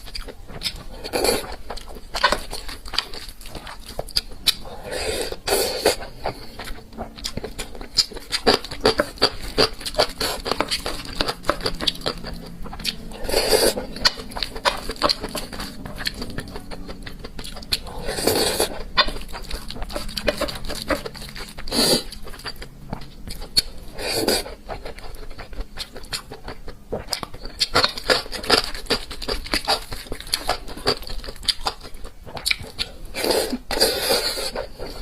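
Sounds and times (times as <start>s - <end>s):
chewing and mouth smacking: 0.0s - 35.0s.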